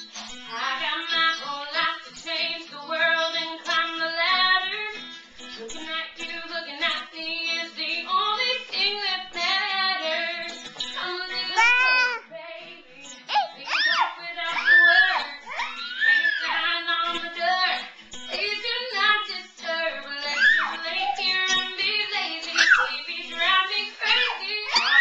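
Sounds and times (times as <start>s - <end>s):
guitar music: 0.0s - 25.0s
girl singing: 0.4s - 5.0s, 5.6s - 25.0s.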